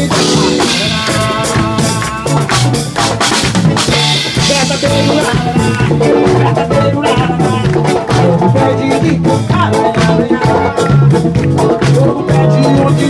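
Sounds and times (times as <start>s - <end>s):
drum kit and percussion beat: 0.0s - 13.0s
live band playing dance music: 0.0s - 13.0s.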